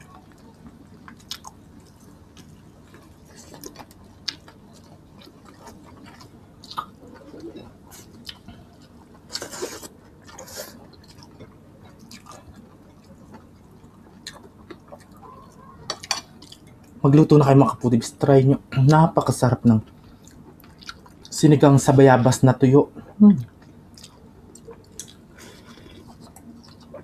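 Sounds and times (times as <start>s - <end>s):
chewing and wet mouth sounds: 0.0s - 17.0s, 19.8s - 21.4s, 23.1s - 27.0s.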